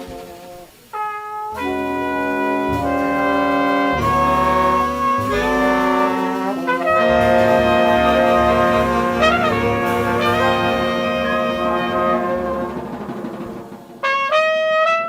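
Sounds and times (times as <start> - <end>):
horn section playing sustained chords: 0.0 - 15.0.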